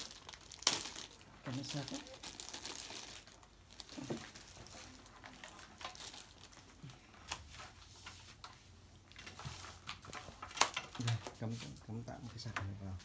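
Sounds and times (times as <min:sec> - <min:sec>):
cable crinkling and rustling: 0:00.0 - 0:13.0.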